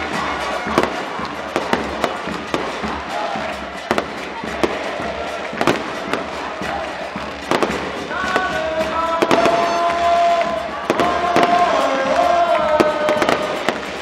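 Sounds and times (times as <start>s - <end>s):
crowd celebrating: 0.0s - 14.0s
firecrackers banging: 0.0s - 14.0s.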